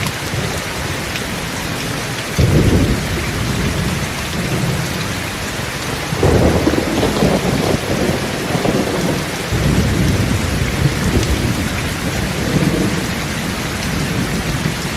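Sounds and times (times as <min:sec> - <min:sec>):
heavy rain: 0:00.0 - 0:14.9
rolling thunder: 0:02.4 - 0:14.9.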